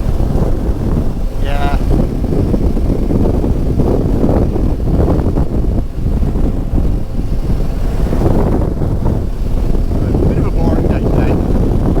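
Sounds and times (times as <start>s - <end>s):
motorcycle running noise: 0.0s - 12.0s
wind noise on microphone: 0.0s - 12.0s.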